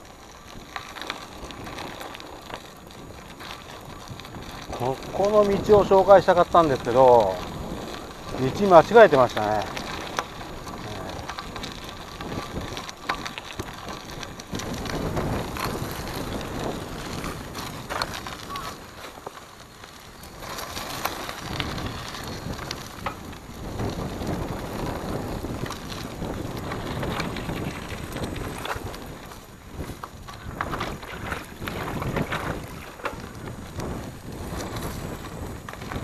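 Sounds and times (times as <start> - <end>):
bike tyres crunching on gravel: 0.0 - 36.0.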